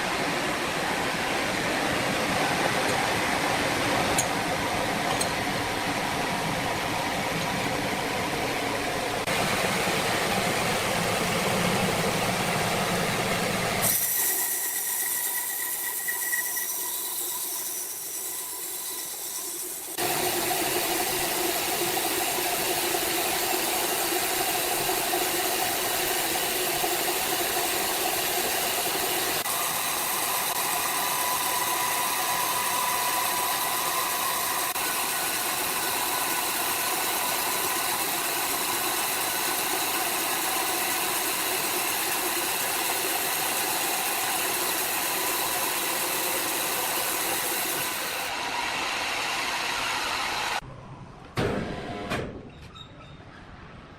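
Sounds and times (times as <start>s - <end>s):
sawmill machinery running: 0.0s - 50.6s.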